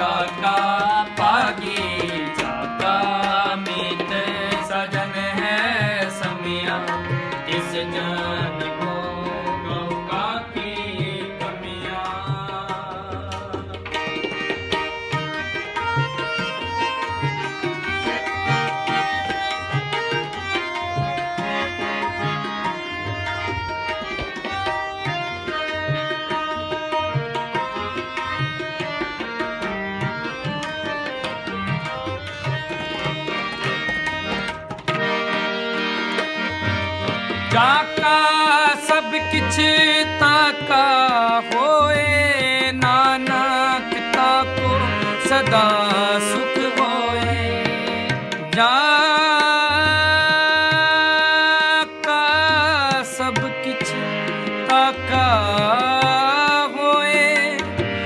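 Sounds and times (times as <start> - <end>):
harmonium melody: 0.0 - 58.0
tabla strokes: 8.4 - 58.0.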